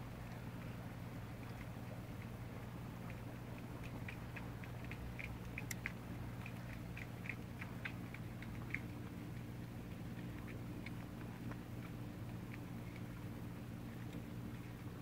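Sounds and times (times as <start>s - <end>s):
cats chewing wet food: 0.0s - 15.0s.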